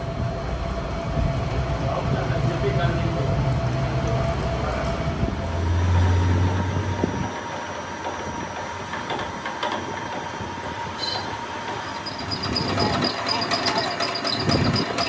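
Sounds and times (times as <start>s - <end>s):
low motor hum: 0.0s - 15.0s
steady background noise: 0.0s - 15.0s.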